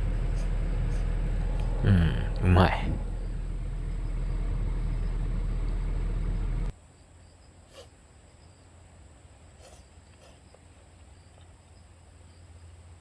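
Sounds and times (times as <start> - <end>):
insects at night: 0.0 - 13.0.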